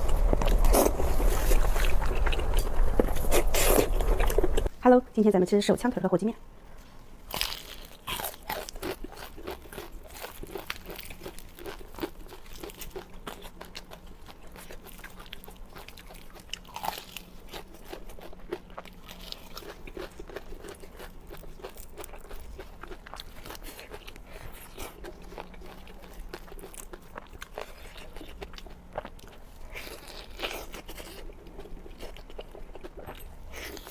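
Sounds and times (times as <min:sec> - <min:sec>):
crunching and chewing fried chicken: 0:00.0 - 0:04.7, 0:07.3 - 0:33.9.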